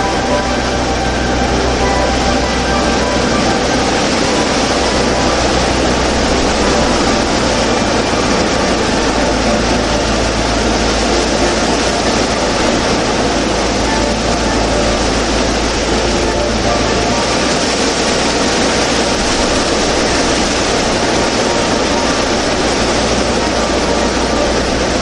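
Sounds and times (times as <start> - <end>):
low hum: 0.0 - 25.0
steady rushing noise: 0.0 - 25.0.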